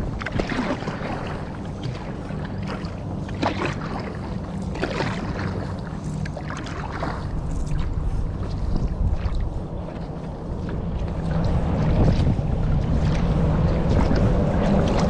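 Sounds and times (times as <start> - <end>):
kayak paddle splashing: 0.0 - 15.0
steady low hum: 0.0 - 15.0.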